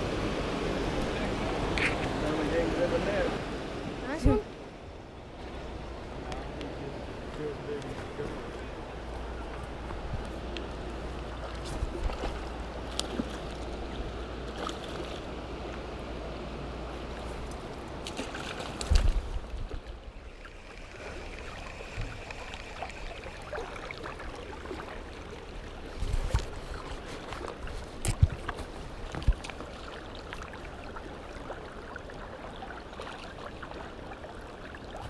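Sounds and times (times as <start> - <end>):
flowing stream water: 0.0 - 35.0
wind rumbling on microphone: 0.0 - 35.0.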